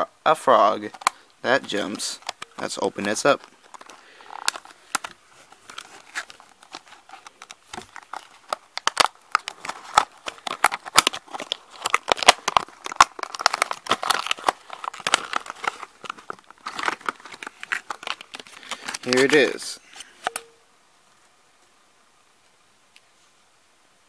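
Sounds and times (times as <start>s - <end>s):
packaging crinkling and tearing: 0.6s - 20.4s.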